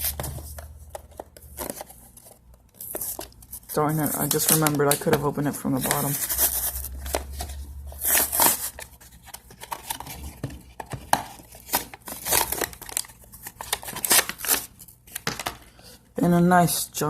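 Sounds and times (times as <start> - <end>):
cardboard and plastic crinkling and tearing: 0.0 - 15.6.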